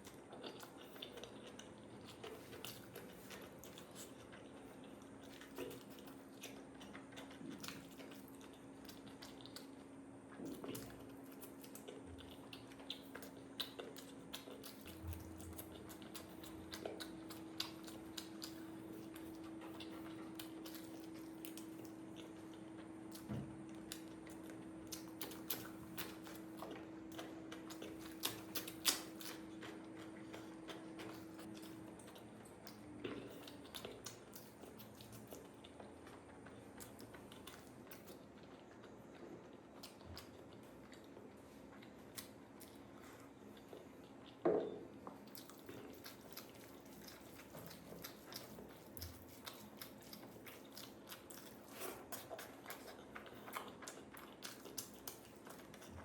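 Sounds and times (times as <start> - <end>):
chewing with crunches: 0.0 - 56.0
low steady hum: 0.0 - 56.0.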